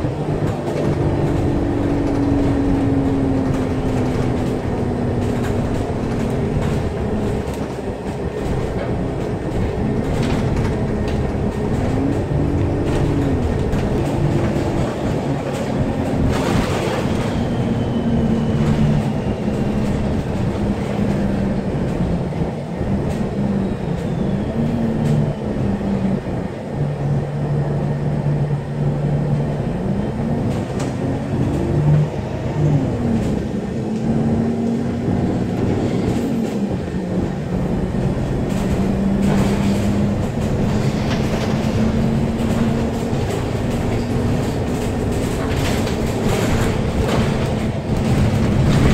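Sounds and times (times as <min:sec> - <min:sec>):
vehicle motor hum: 0:00.0 - 0:48.9.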